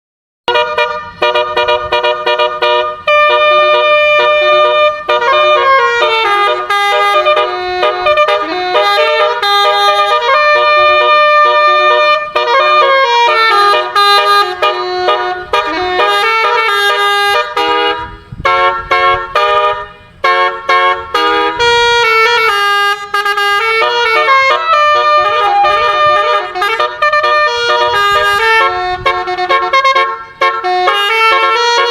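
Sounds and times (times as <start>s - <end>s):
musical bus horn playing tune: 0.5s - 31.9s.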